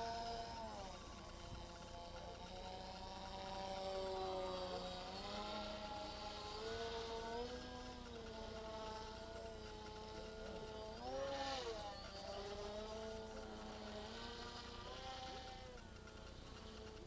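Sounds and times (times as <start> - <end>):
model airplane motor whining: 0.0 - 17.0.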